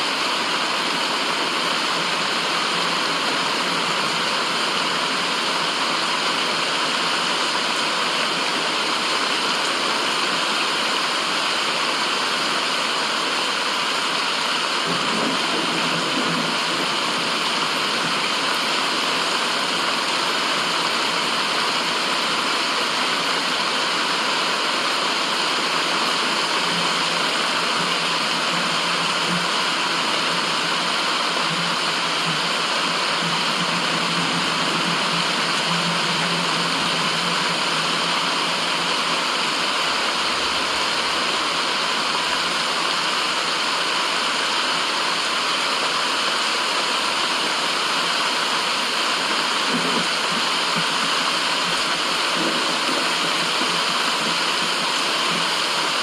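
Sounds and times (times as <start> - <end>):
white noise rush: 0.0 - 56.0.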